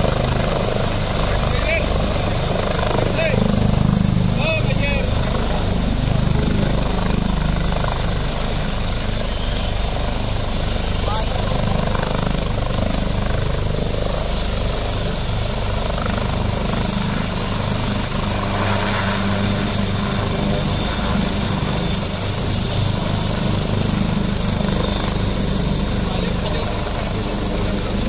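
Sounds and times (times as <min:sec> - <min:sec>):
helicopter rotor beating: 0:00.0 - 0:28.0
high-pitched turbine whine: 0:00.0 - 0:28.0.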